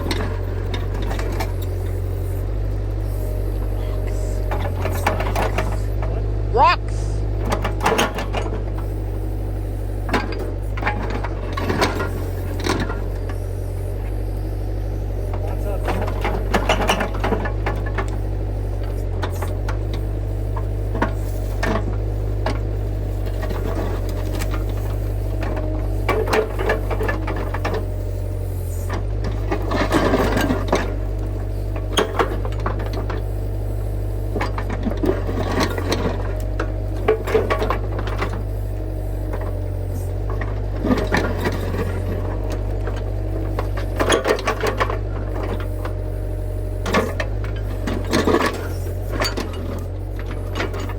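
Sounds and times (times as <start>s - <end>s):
excavator engine running: 0.0s - 50.9s.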